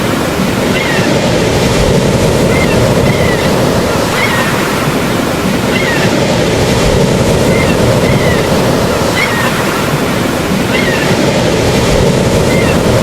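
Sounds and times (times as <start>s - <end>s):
water rushing like surf: 0.0s - 13.0s.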